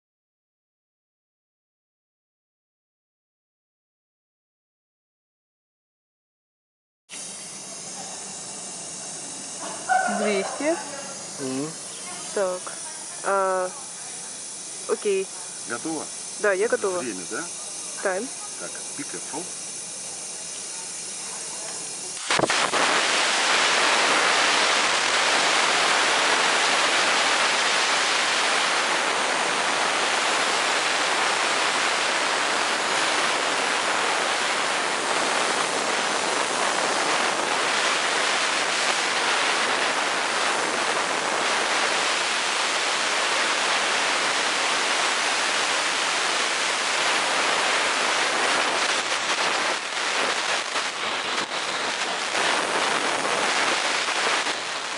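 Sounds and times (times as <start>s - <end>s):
compressed air hissing from hose: 7.1s - 54.9s.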